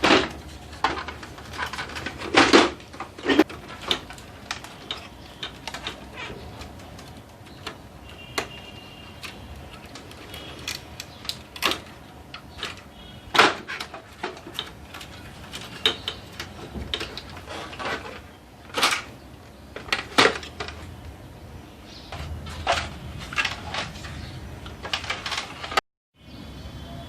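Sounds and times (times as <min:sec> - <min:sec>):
plastic parts clicking and knocking: 0:00.0 - 0:21.0, 0:22.1 - 0:25.8.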